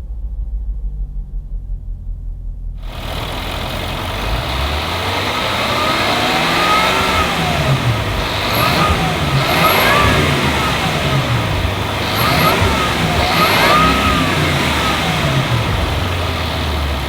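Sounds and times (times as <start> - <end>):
engine revving: 2.8 - 17.0
wind and road noise: 2.8 - 17.0.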